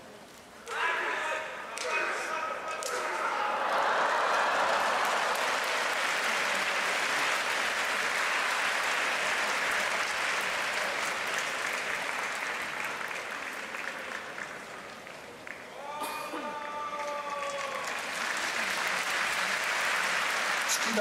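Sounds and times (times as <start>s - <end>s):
audience applauding: 2.8s - 21.0s.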